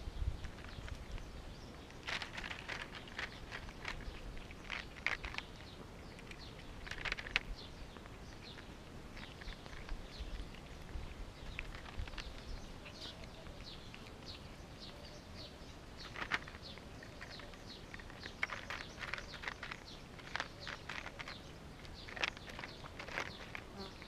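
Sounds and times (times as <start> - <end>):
cats chewing and licking: 0.4 - 24.0.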